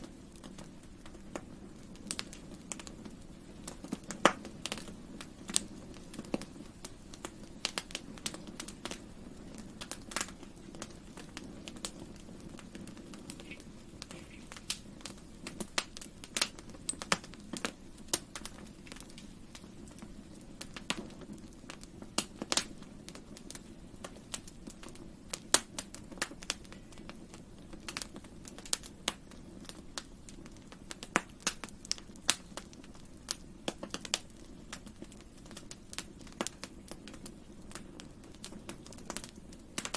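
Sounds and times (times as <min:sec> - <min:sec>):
low rush of flames: 0:00.0 - 0:39.9
wood crackling and popping: 0:00.0 - 0:39.9.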